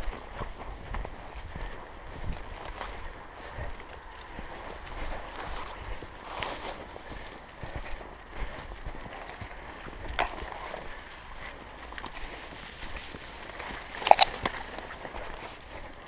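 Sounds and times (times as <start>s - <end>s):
branches and brush rustling: 0.0s - 16.0s
footsteps on stones and leaves: 0.0s - 16.0s.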